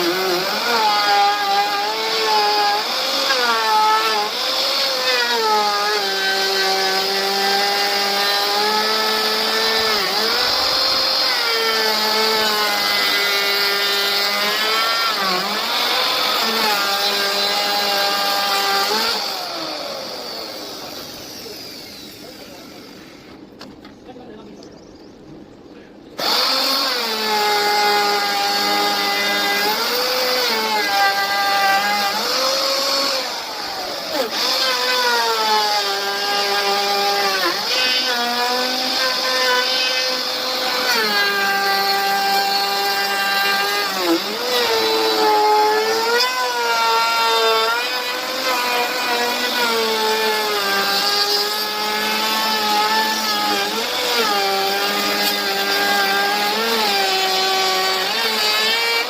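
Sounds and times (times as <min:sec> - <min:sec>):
power tool cutting wood: 0:00.0 - 0:23.4, 0:26.2 - 0:59.0.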